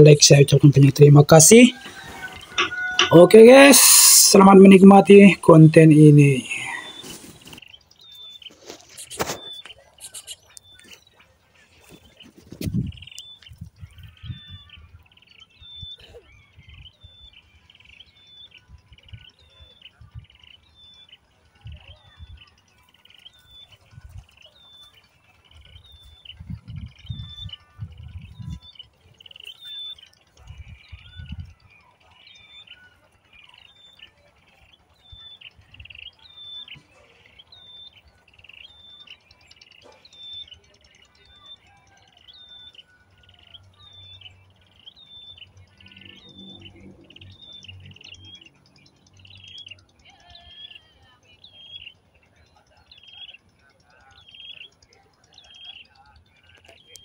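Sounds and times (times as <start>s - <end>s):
sparrow chirping: 0.0s - 57.0s.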